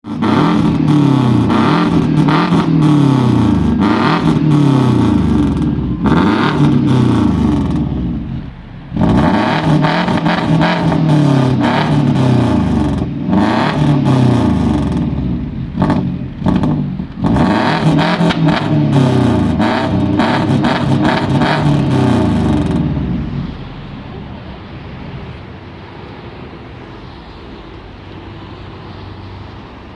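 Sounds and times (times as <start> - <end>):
car engine revving: 0.0 - 25.4
exhaust crackles: 0.0 - 27.4
car engine idling: 0.0 - 29.9.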